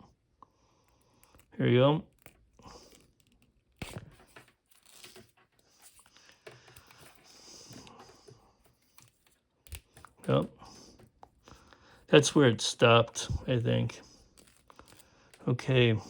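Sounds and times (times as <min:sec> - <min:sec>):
wire insulation rustling and clicking: 0:00.8 - 0:15.6.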